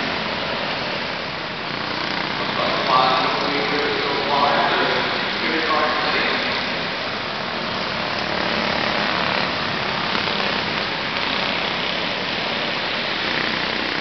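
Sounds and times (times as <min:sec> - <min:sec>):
kart engines running: 0:00.0 - 0:14.0.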